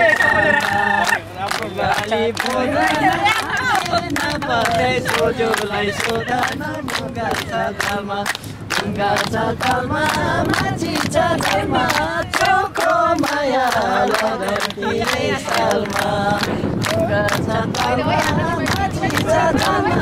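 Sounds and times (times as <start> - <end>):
group singing folk song: 0.0 - 20.0.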